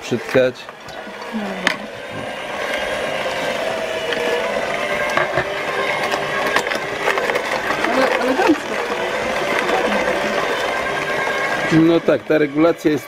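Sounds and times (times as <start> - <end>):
cabbage cracking in juicer: 0.0 - 13.0
juicer motor humming: 0.0 - 13.0.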